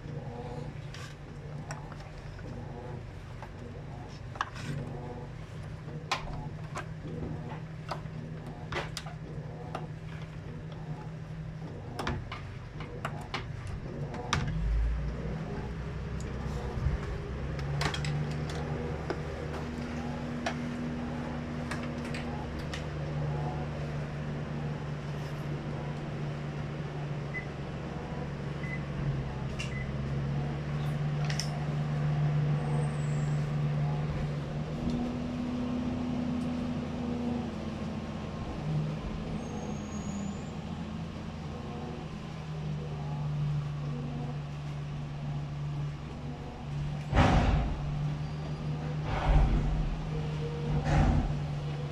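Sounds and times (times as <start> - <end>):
washing machine motor hum: 0.0 - 51.9.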